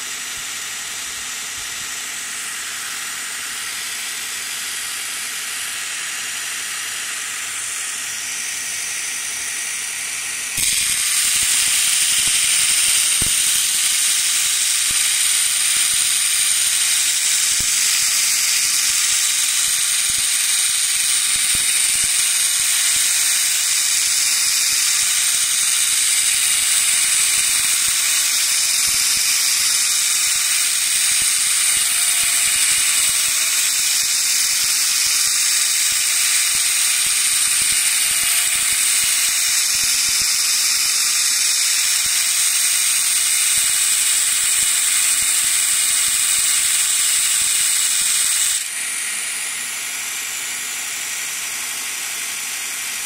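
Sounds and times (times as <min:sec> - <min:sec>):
belt grinder grinding steel: 0:00.8 - 0:51.2.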